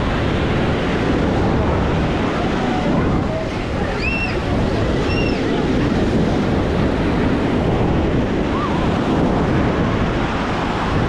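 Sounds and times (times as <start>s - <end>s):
ocean surf washing onto beach: 0.0s - 11.0s
wind buffeting microphone: 0.0s - 11.0s.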